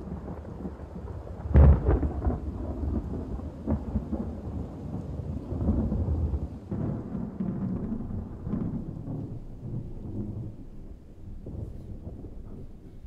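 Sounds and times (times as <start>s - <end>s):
thunder crack and rumbles: 0.0s - 13.0s.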